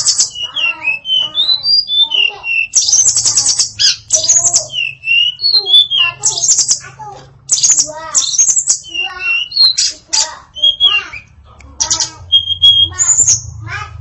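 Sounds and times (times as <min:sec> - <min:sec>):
bird song with whistles and trills: 0:00.0 - 0:06.9, 0:07.5 - 0:13.6.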